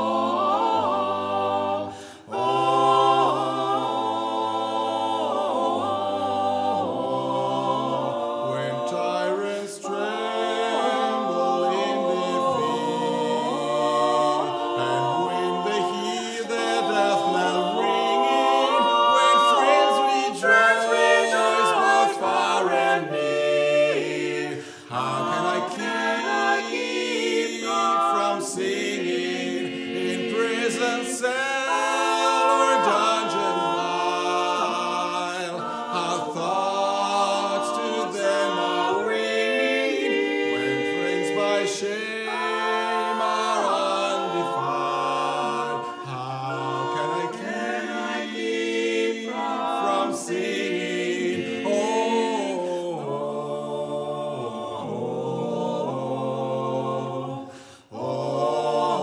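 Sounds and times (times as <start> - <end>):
a cappella vocal quartet singing: 0.0 - 59.0.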